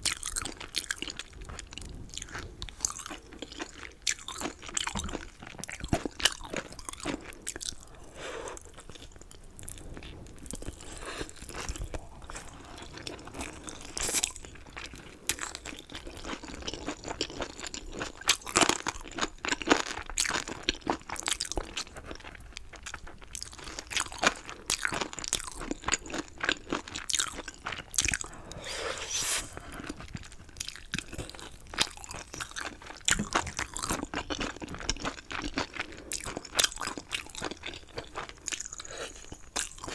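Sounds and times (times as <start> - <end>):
chewing with sharp crunches: 0.0 - 39.9.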